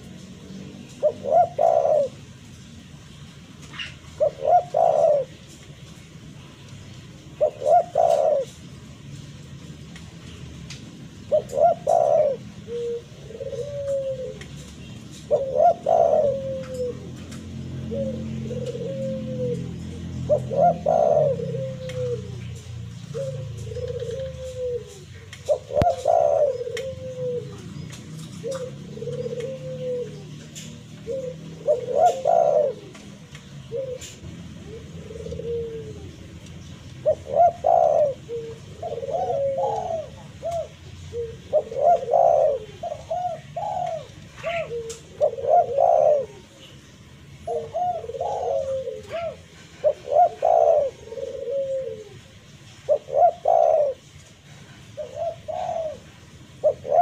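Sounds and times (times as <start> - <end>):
dove cooing: 0.0 - 2.5, 3.7 - 5.9, 6.5 - 9.2, 11.1 - 57.0.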